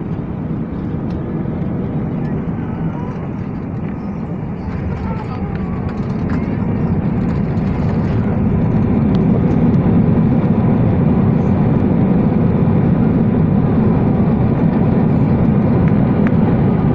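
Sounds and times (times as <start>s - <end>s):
airliner cabin rumble: 0.0s - 16.9s.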